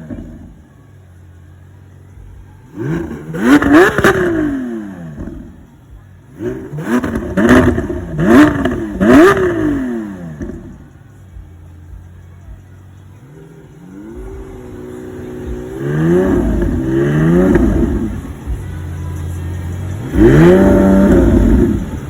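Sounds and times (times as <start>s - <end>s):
sports car engine revving: 0.0s - 22.0s.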